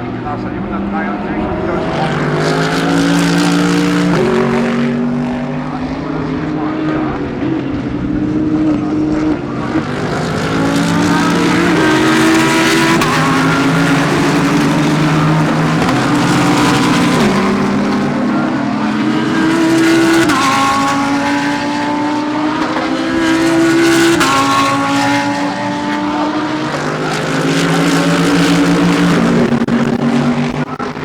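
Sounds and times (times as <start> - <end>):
race car engine upshifting: 0.0 - 31.0.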